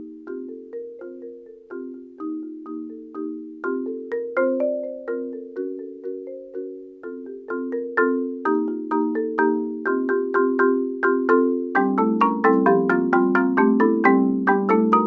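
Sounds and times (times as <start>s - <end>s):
marimba chords: 0.0s - 15.0s.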